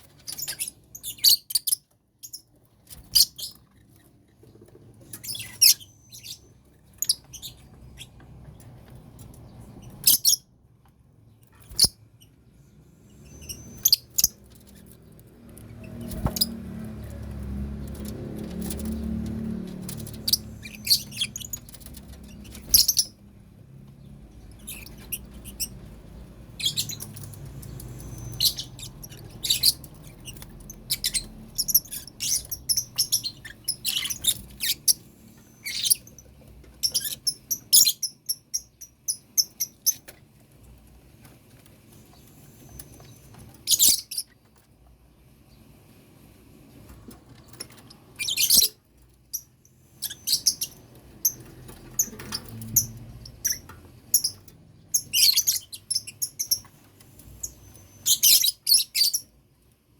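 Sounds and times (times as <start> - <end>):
lovebirds chirping: 0.0 - 10.5, 11.2 - 40.2, 41.8 - 44.4, 47.4 - 59.4.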